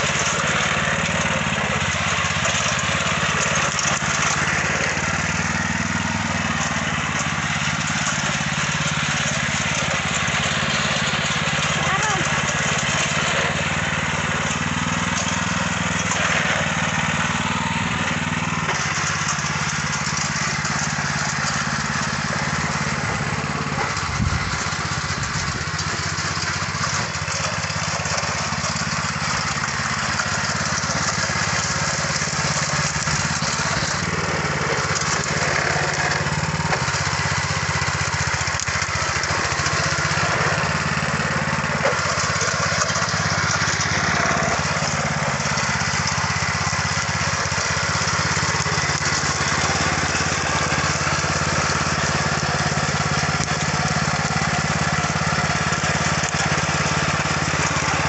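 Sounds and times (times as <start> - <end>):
tiller engine running: 0.0 - 58.0.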